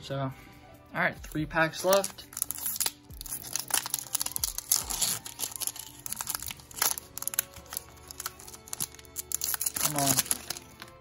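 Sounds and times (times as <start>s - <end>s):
faint background music: 0.0s - 11.0s
foil wrapper tearing and crinkling: 1.8s - 11.0s.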